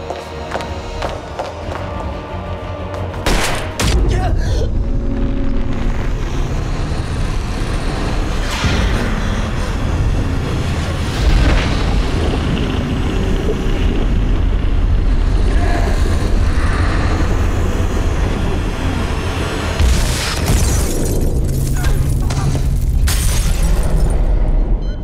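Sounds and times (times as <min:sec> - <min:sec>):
deep rumble: 0:03.8 - 0:24.9.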